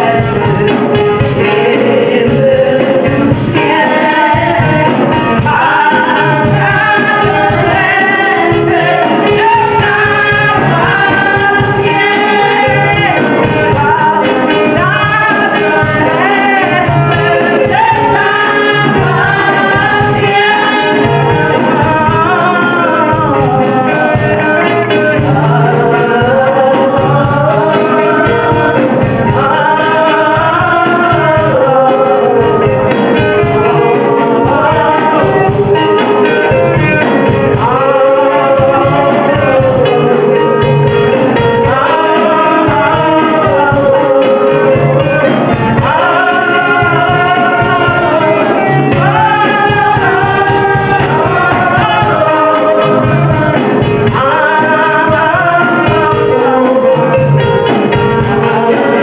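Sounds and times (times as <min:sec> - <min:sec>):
backing music with steady beat: 0:00.0 - 0:59.0
woman singing into microphone: 0:00.0 - 0:59.0.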